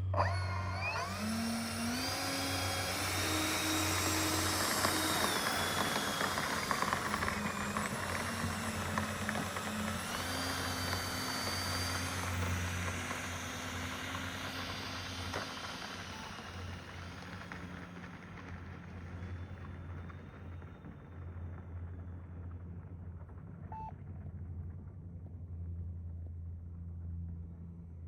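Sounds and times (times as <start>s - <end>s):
electric ducted fans whining: 0.0s - 22.6s.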